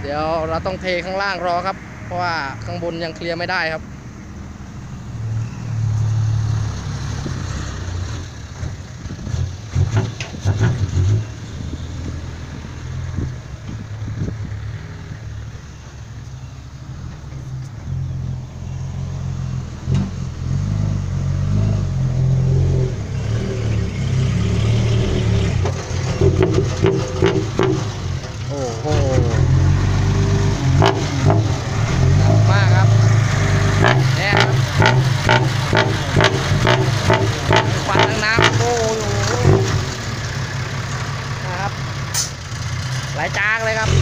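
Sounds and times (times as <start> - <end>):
diesel truck engine rumbling: 0.0 - 44.0.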